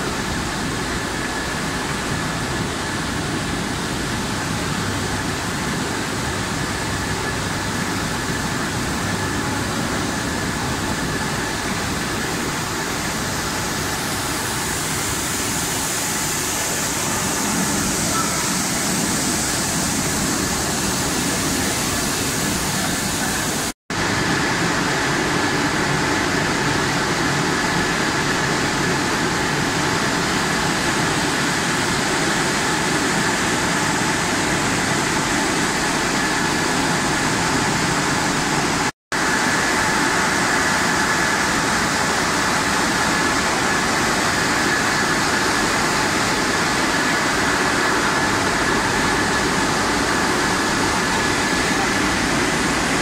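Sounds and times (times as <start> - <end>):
high whine of vibrating conveyors: 0.0 - 53.0
machinery humming: 0.0 - 53.0
water spraying from nozzles: 0.0 - 53.0.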